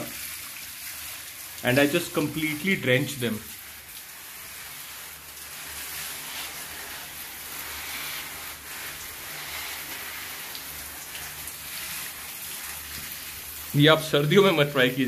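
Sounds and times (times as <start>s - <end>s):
shower spraying water on leaves: 0.0s - 15.0s.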